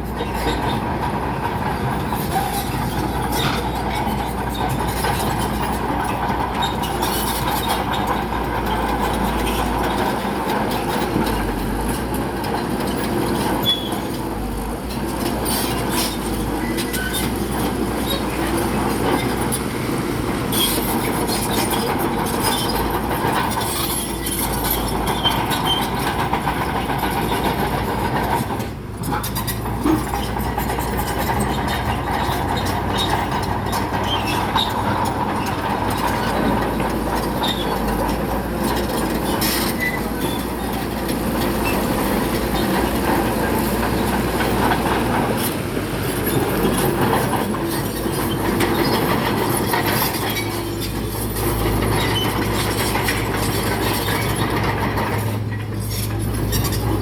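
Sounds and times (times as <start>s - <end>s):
diesel engine running: 0.0s - 57.0s
steel tracks clanking: 0.0s - 57.0s.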